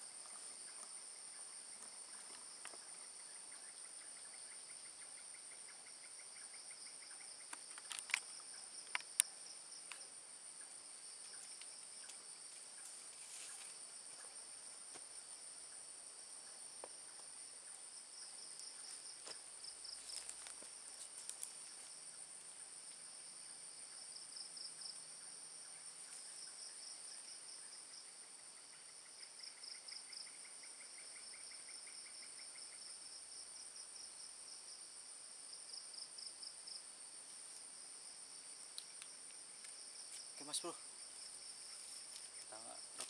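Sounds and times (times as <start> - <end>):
cricket-like trills: 0.0 - 43.0.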